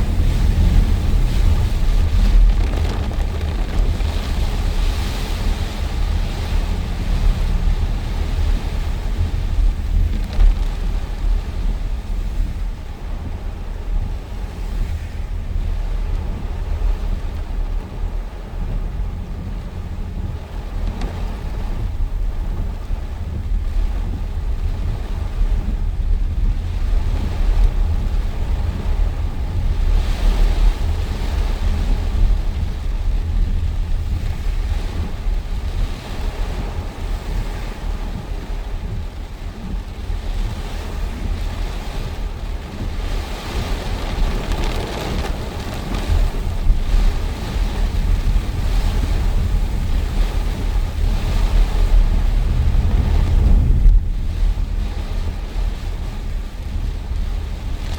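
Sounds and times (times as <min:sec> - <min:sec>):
storm wind buffeting microphone: 0:00.0 - 0:57.9.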